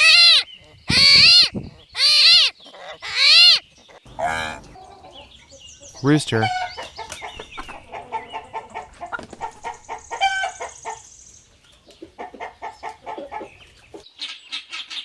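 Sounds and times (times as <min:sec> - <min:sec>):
rooster clucking: 0:00.0 - 0:11.1, 0:11.8 - 0:14.0.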